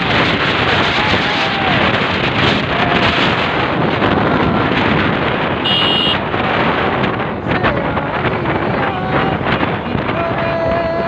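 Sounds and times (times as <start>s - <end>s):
motorcycle riding: 0.0s - 11.0s
wind buffeting microphone: 0.0s - 11.0s.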